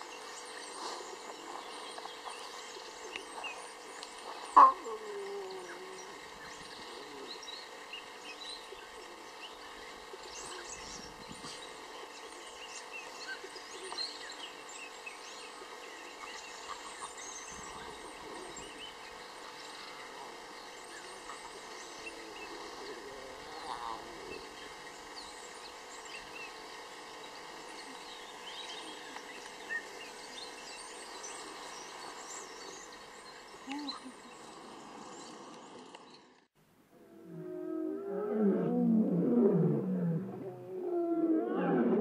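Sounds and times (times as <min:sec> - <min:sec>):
small birds chirping: 0:00.0 - 0:36.4.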